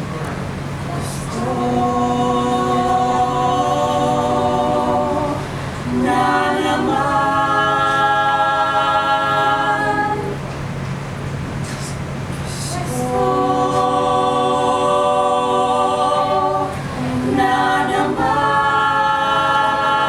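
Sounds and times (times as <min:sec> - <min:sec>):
mixed choir singing a cappella: 0:00.9 - 0:10.5, 0:12.4 - 0:20.0.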